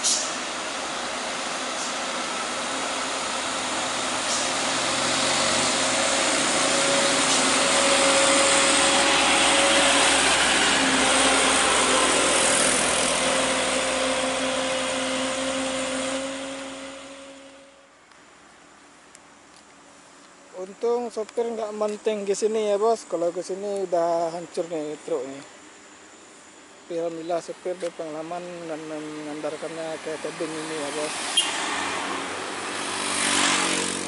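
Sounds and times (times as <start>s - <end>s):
mixed traffic: 0.0s - 34.0s
truck engine and tyre noise: 0.0s - 34.0s.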